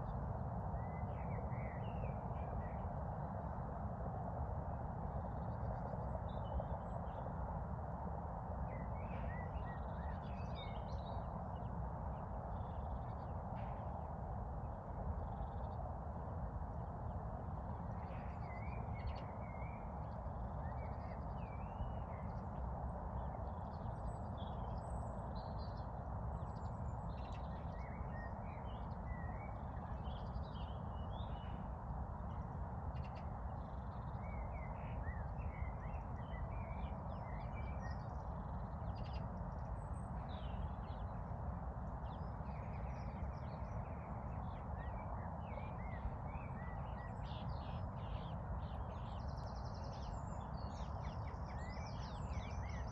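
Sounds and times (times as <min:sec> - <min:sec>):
songbirds chirping and trilling: 0:08.6 - 0:16.0, 0:17.1 - 0:52.9.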